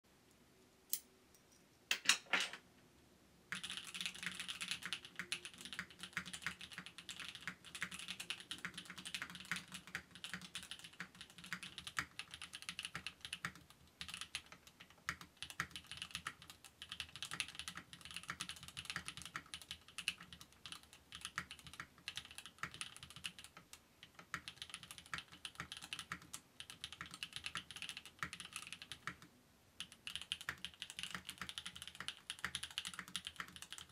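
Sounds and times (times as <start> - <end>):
mechanical keyboard typing: 3.5 - 33.9.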